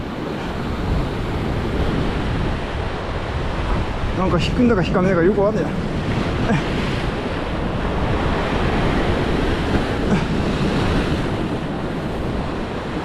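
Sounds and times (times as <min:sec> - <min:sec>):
sea waves breaking on rocks: 0:00.0 - 0:13.0
wind buffeting microphone: 0:00.0 - 0:13.0.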